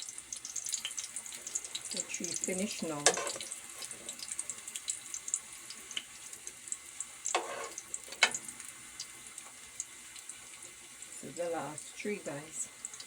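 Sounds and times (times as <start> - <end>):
frying in hot oil: 0.0 - 13.0.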